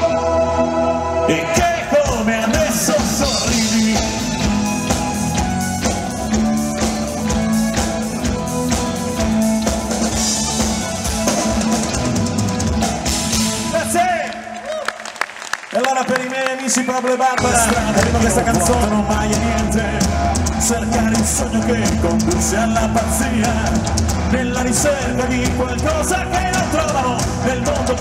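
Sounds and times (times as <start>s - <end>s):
electric guitar: 0.0s - 13.9s, 17.4s - 28.0s
bass guitar: 0.0s - 14.2s, 17.4s - 28.0s
rock band playing: 0.0s - 14.6s, 17.3s - 28.0s
drum kit: 1.4s - 14.1s, 17.4s - 28.0s.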